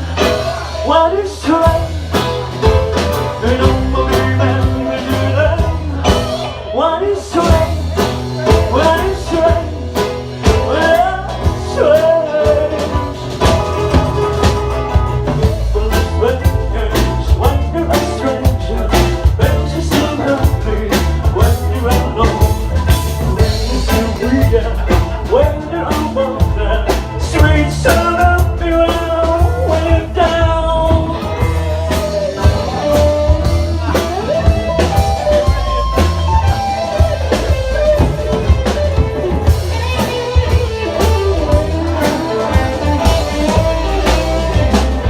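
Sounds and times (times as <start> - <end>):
bending guitar lead: 0.0 - 45.0
rock band playing: 0.0 - 45.0.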